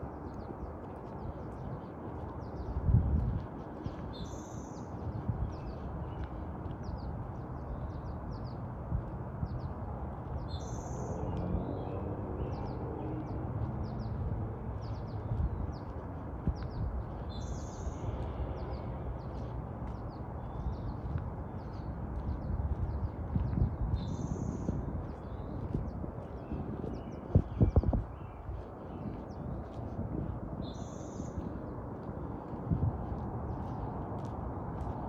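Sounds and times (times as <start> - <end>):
small birds chirping: 0.1 - 8.8, 9.4 - 35.0
steady low rumble: 6.9 - 35.0.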